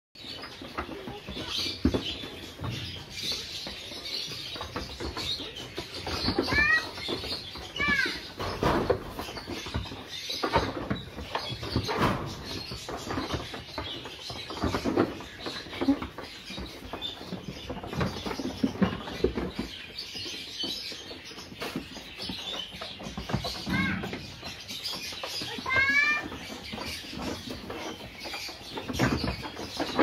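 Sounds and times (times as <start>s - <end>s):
hooves clattering on wooden boards: 0.2s - 30.0s.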